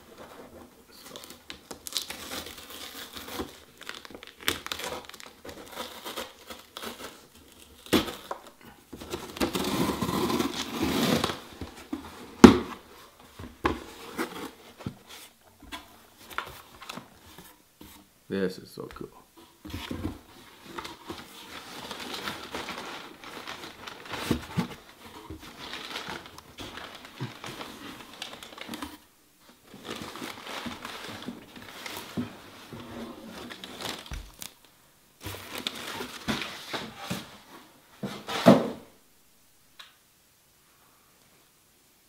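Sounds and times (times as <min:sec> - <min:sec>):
cardboard box rustling and crinkling: 0:00.0 - 0:17.6, 0:19.5 - 0:34.6, 0:35.2 - 0:38.8.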